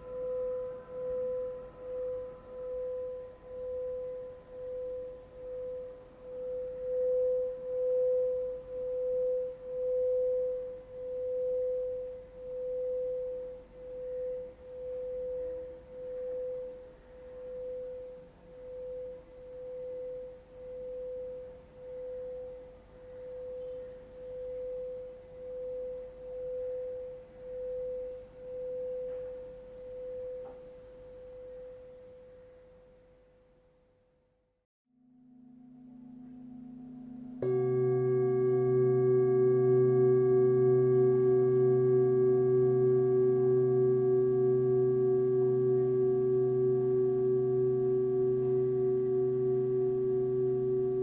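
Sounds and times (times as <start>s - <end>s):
singing bowl tone: 0.0s - 33.4s, 34.9s - 51.0s.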